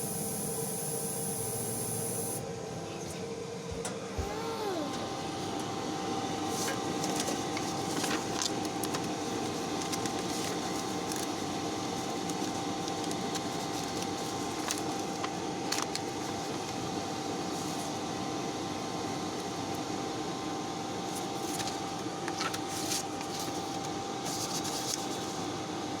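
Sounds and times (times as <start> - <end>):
laser engraver hum and whine: 0.0 - 26.0.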